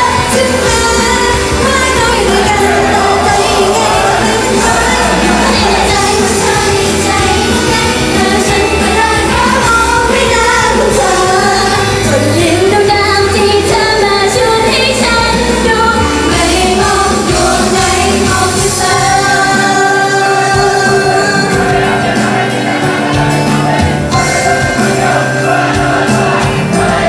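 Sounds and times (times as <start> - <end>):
women singing into microphones: 0.0 - 23.5
upbeat pop accompaniment: 0.0 - 27.0.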